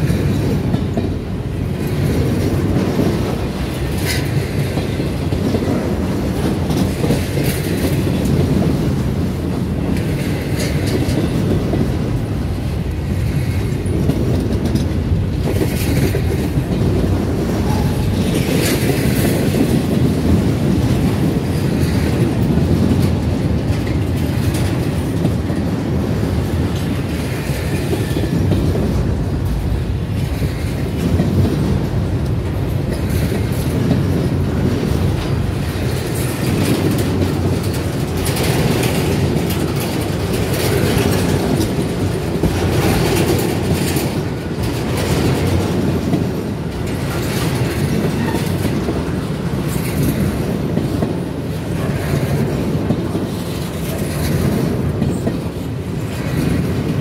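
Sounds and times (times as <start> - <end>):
steel wheels rumbling on rail: 0.0 - 57.0
wheels clicking over rail joints: 0.0 - 57.0.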